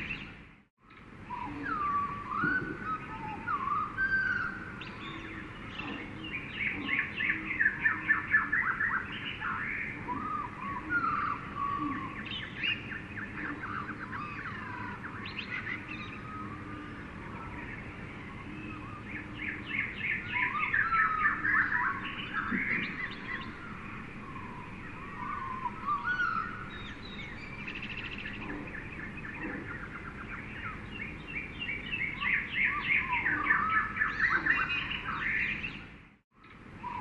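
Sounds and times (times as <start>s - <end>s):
birds chirping and trilling: 0.0s - 37.0s
steady background hiss: 0.0s - 37.0s.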